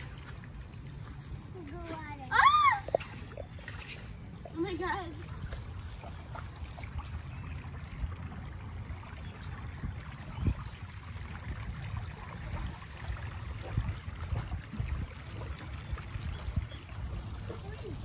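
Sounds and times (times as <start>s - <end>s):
creek running: 0.0s - 18.0s.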